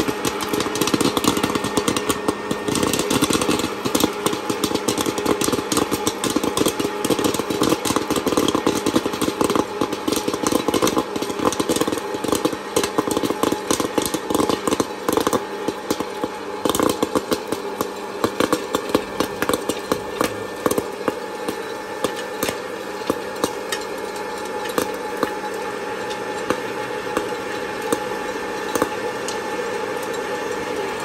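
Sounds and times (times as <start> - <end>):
popcorn kernels popping: 0.0 - 31.0
popcorn popper fan hum: 0.0 - 31.0.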